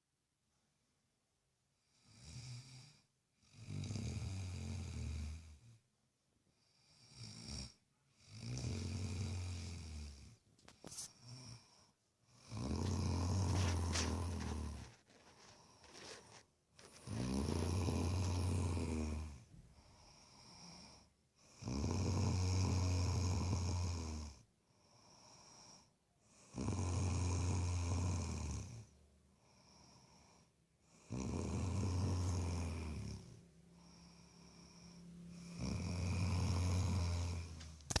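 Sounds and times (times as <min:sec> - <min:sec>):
quiet breaths: 0:01.7 - 0:38.0
loud snores: 0:01.8 - 0:05.8, 0:06.6 - 0:10.4, 0:11.1 - 0:38.0.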